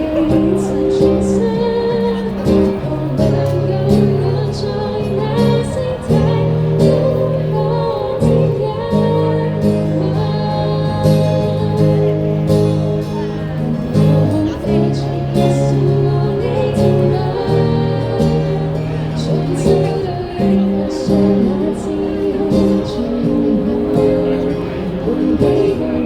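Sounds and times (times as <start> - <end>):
person singing: 0.0 - 26.0.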